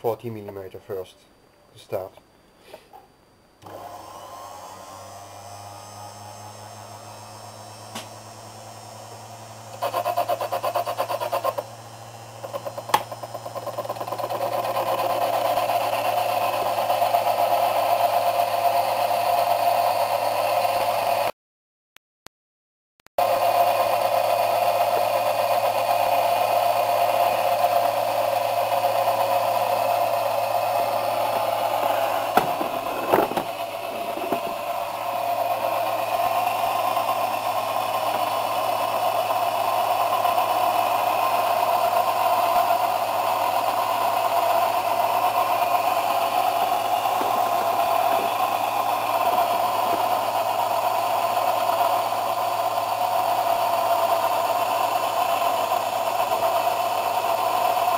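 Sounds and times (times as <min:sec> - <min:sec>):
mini lathe motor humming: 0:03.6 - 0:21.3, 0:23.2 - 0:57.9.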